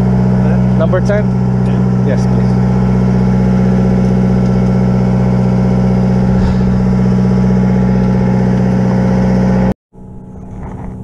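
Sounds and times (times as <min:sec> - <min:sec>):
boat engine droning: 0:00.0 - 0:09.7.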